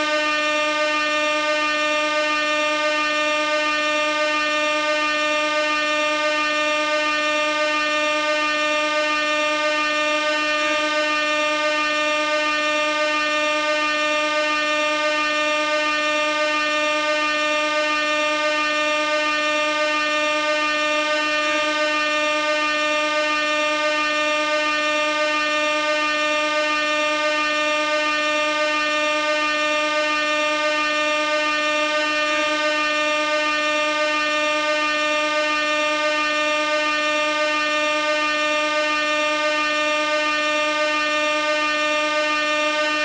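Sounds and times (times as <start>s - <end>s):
air horn blast: 0.0s - 43.0s.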